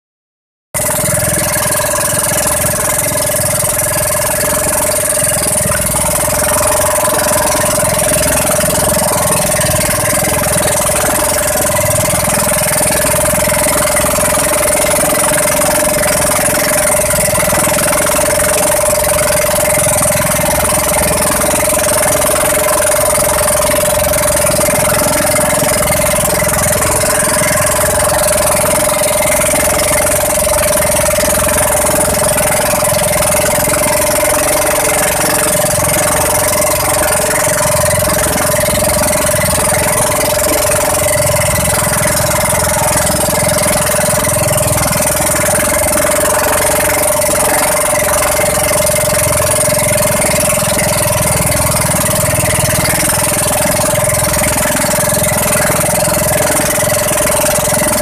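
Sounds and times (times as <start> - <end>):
boat engine droning: 0.8 - 58.0
choppy water washing on hull: 0.8 - 58.0.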